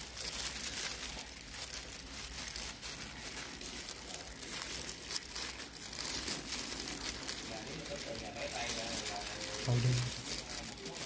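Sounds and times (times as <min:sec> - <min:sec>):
plastic gloves crinkling: 0:00.0 - 0:11.0
wet squishing of food: 0:00.0 - 0:11.0.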